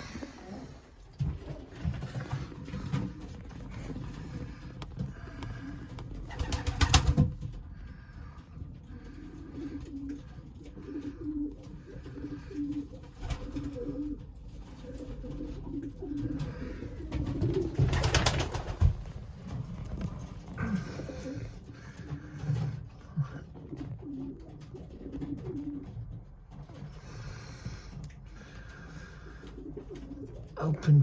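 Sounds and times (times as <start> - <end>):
pigeons cooing: 0.0 - 30.7.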